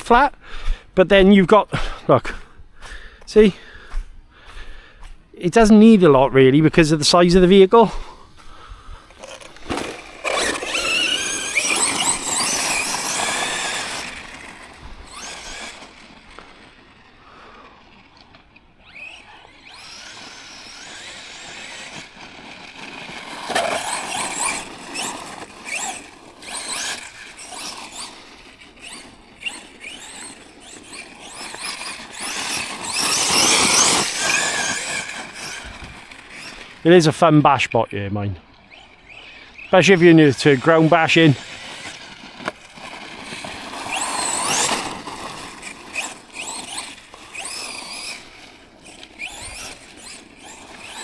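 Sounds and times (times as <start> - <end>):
toy truck motor whine: 8.4 - 51.0.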